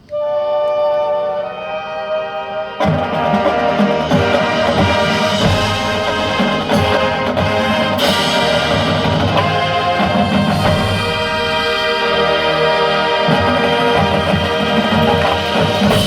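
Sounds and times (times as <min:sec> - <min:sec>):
wind band chords: 0:00.0 - 0:16.0
drums and timpani: 0:00.2 - 0:16.0
cymbal crash: 0:02.9 - 0:16.0.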